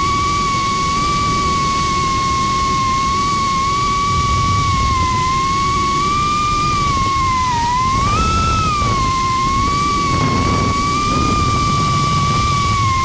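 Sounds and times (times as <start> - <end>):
drone motors whining: 0.0 - 13.0
rumble of air: 0.0 - 13.0.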